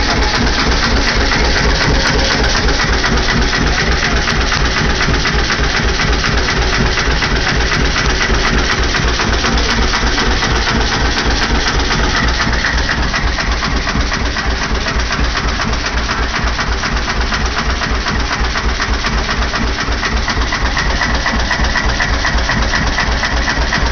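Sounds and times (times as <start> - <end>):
single-cylinder engine running rhythmically: 0.0 - 23.9.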